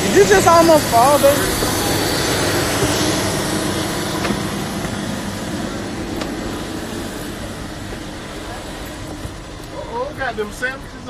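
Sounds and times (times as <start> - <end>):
aircraft engines running: 0.0 - 11.0.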